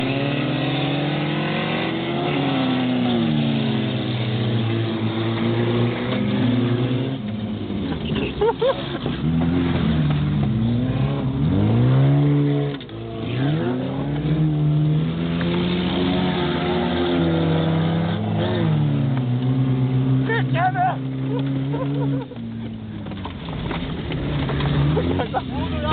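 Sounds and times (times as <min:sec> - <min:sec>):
race car engines revving: 0:00.0 - 0:25.9.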